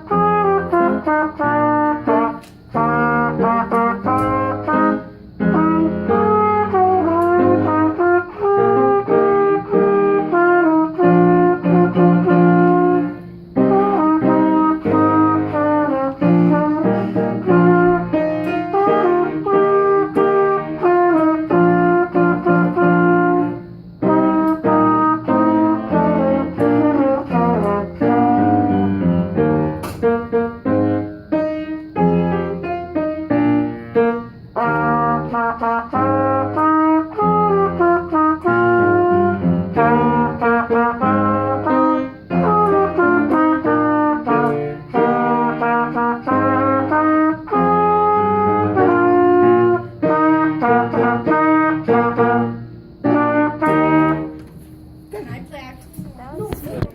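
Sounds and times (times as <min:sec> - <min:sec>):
brass band accompaniment: 0:00.0 - 0:33.3, 0:34.0 - 0:54.6
trumpet playing a melody: 0:00.0 - 0:54.6.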